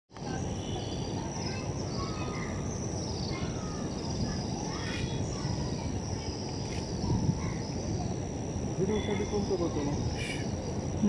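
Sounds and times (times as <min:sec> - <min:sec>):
high insect drone: 0:00.2 - 0:11.0.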